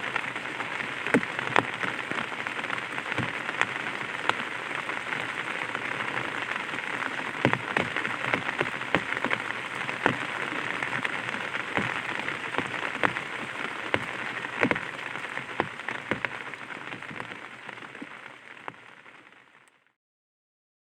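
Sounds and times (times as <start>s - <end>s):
rain pattering on an umbrella: 0.0s - 20.0s.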